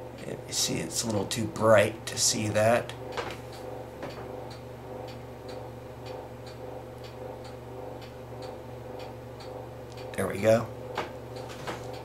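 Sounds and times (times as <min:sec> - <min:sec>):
low steady hum: 0:00.0 - 0:12.0
regular light ticking: 0:02.1 - 0:12.0.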